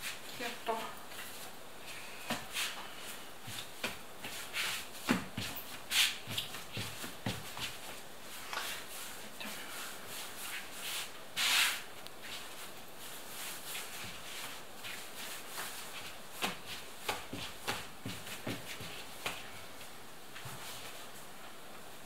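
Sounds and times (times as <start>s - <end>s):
hands rubbing dough: 2.2s - 21.2s.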